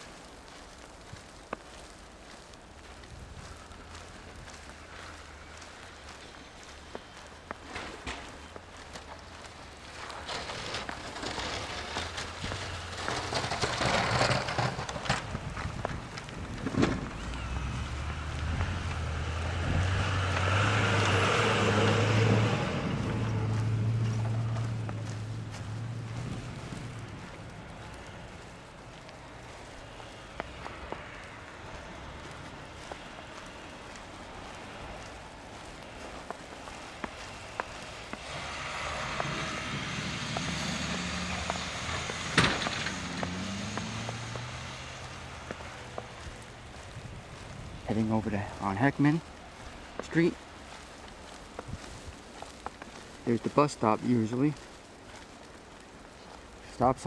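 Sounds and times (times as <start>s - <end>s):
vehicle passing on snow: 0.0s - 57.0s.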